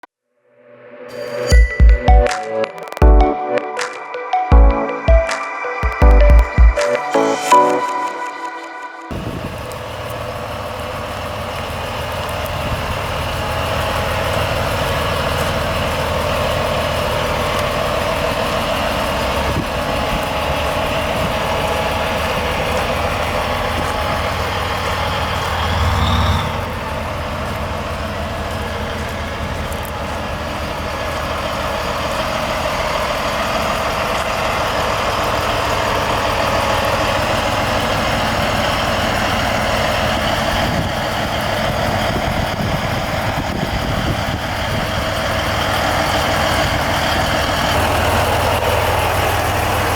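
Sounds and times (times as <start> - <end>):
diesel truck idling: 9.1 - 49.9.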